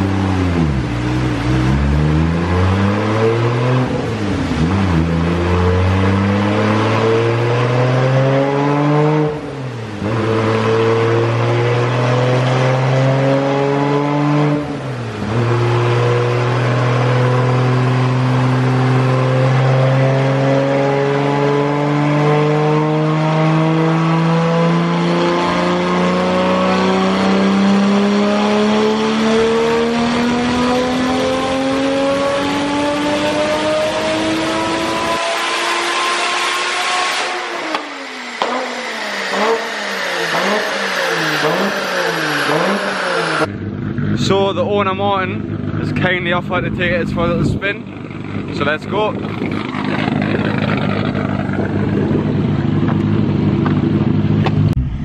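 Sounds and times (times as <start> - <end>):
car engine revving on dyno: 0.0 - 44.3, 46.8 - 55.0.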